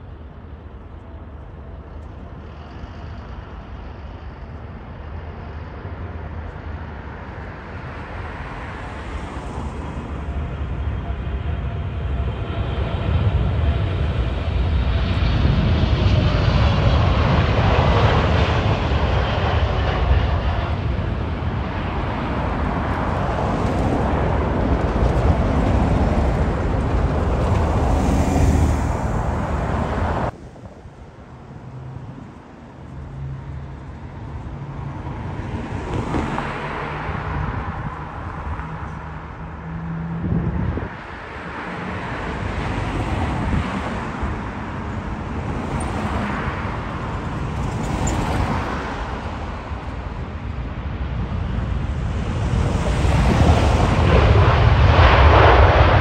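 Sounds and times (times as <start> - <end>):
jet engines rumbling and whining: 0.0 - 56.0
traffic noise: 0.0 - 56.0.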